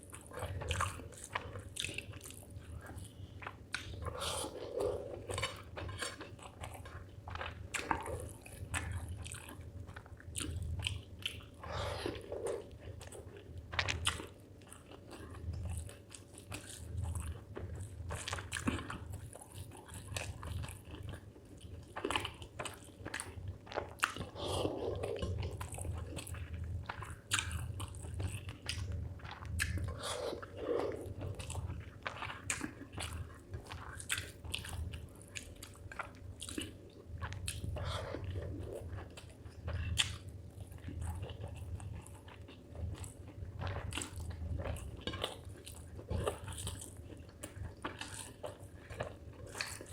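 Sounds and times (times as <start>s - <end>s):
person chewing with wet clicks: 0.0s - 49.9s.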